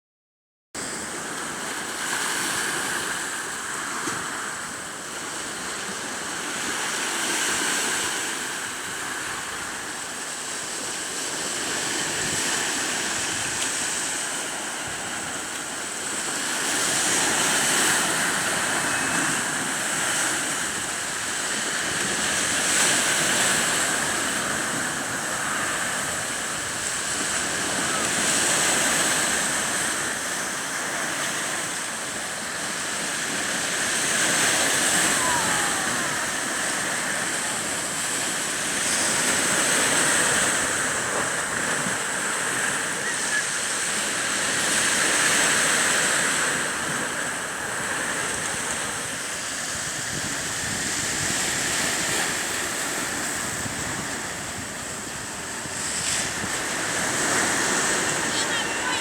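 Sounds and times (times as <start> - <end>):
sea waves washing on shore: 0.8 - 59.0.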